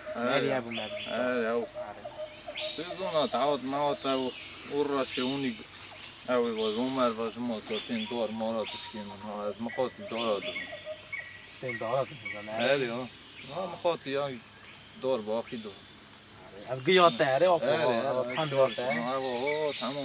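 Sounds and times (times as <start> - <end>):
men talking: 0.0 - 10.9, 11.6 - 20.0
crickets chirring: 0.0 - 20.0.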